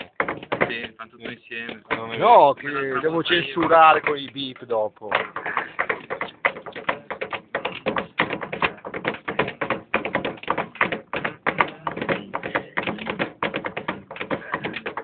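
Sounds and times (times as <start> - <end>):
fingertips drumming on wooden table: 0.0 - 15.0.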